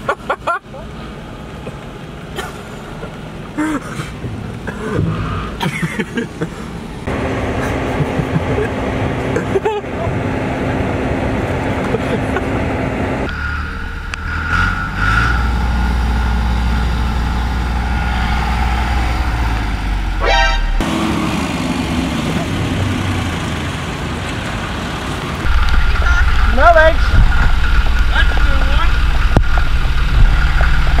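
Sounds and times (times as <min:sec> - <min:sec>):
tractor engine rumbling: 0:00.0 - 0:31.0.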